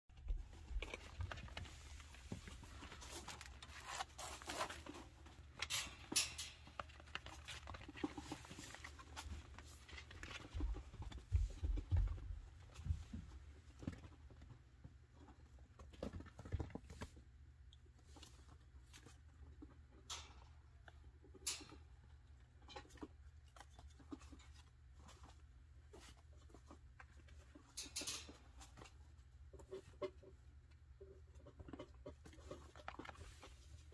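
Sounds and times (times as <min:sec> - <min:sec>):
small feet pattering and scratching: 0:00.1 - 0:33.9.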